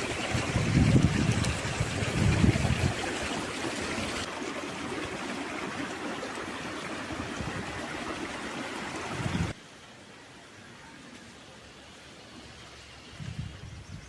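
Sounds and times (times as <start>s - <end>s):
stream water running: 0.0s - 14.0s.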